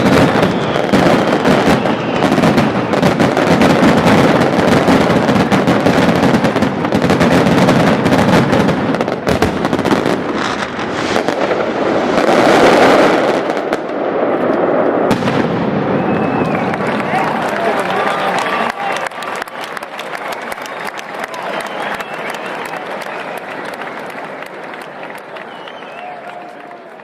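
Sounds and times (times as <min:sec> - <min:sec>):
fireworks bursting and crackling: 0:00.0 - 0:26.1.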